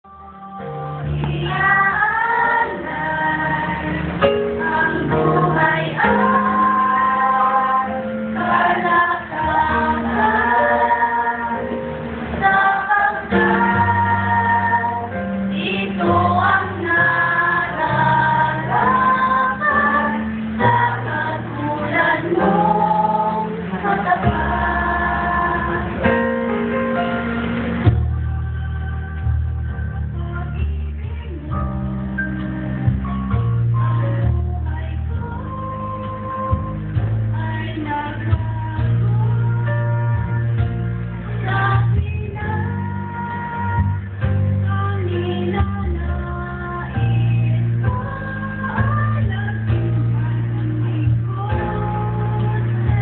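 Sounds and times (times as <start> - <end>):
women singing through microphones: 0.1 - 26.4, 27.7 - 53.0
instrumental accompaniment: 0.1 - 53.0.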